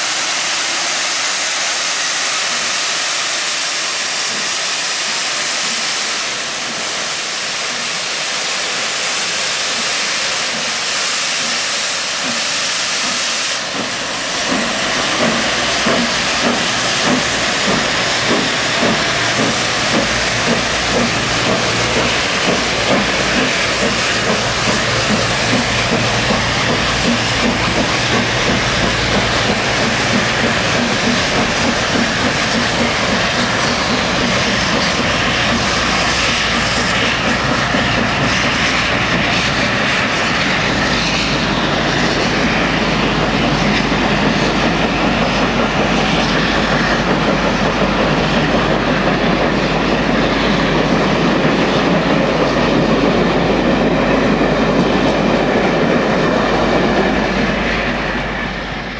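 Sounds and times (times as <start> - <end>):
steam locomotives running: 0.0 - 58.9
coach wheels clattering on rails: 9.7 - 58.9.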